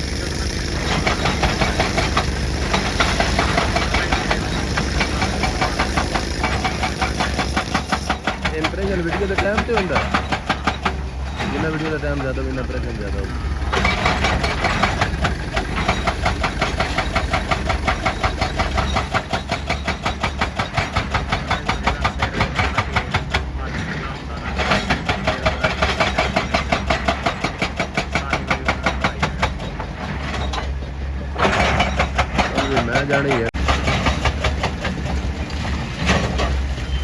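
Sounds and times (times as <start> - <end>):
excavator engine drone: 0.0 - 37.0
hydraulic breaker hammer pounding rock: 0.0 - 37.0.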